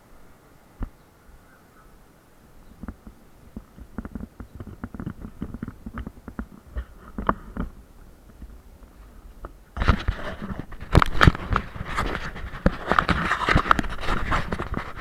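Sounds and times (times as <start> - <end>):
irregular knocks and clatter: 2.8 - 15.0.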